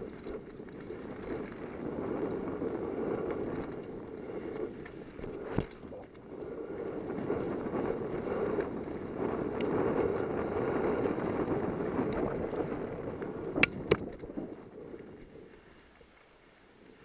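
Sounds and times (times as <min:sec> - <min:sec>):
bike rattling: 0:00.0 - 0:17.0
bike tyres rushing on dirt: 0:00.0 - 0:17.0.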